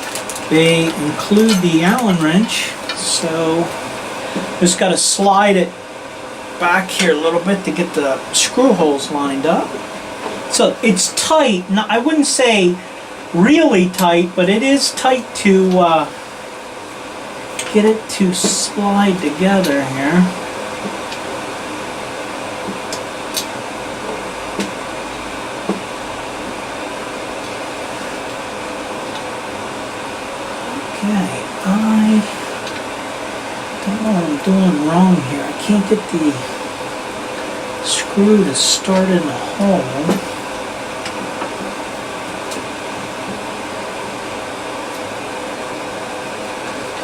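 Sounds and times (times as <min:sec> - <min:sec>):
fan-like whooshing room noise: 0:00.0 - 0:47.0.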